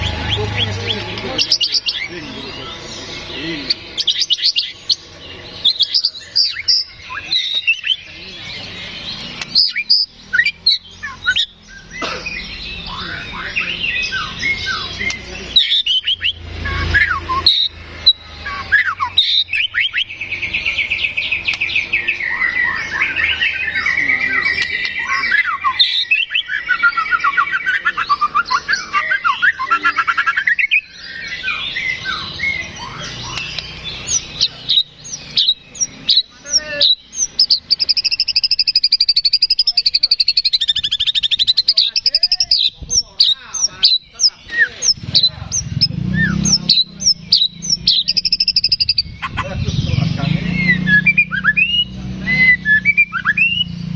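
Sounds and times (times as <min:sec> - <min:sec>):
fast chattering bird trill: 0:00.0 - 0:53.7
lovebirds chirping: 0:00.0 - 0:53.9
sparrows squabbling: 0:00.0 - 0:53.9.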